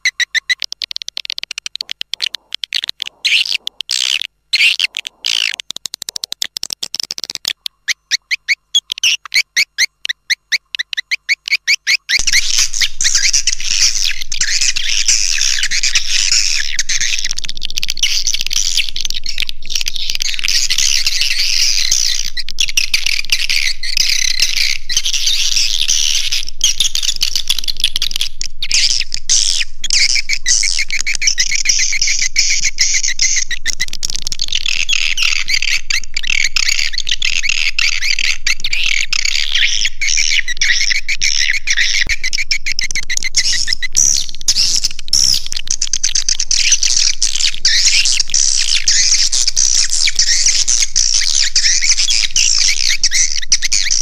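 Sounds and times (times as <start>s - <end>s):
swiftlets twittering: 0.0s - 54.0s.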